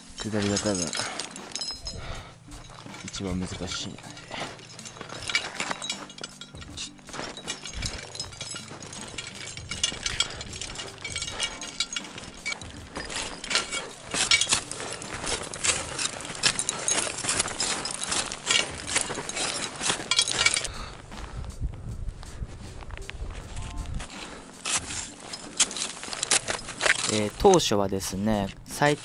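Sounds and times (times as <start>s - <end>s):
metal climbing hardware jingling: 0.0s - 21.1s, 23.4s - 29.0s
footsteps crunching in snow: 0.0s - 29.0s.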